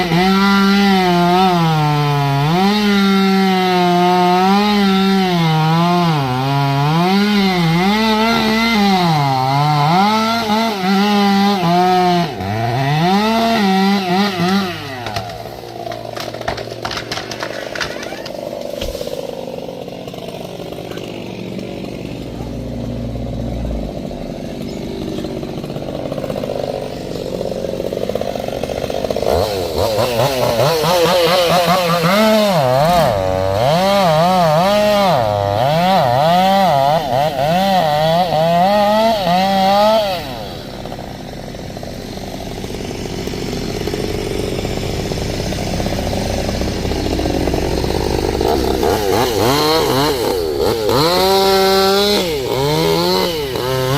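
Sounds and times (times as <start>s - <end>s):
chainsaw engine revving: 0.0s - 53.9s.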